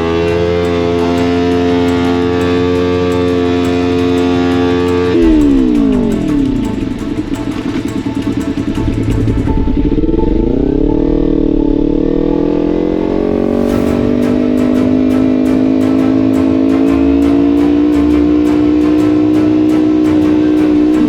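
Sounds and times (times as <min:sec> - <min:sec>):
guitar music: 0:00.0 - 0:21.0.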